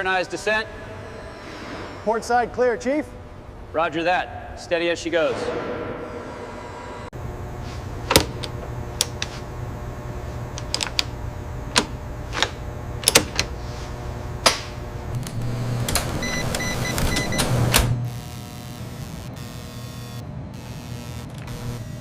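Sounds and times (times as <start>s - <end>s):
machinery humming: 0.0s - 22.0s.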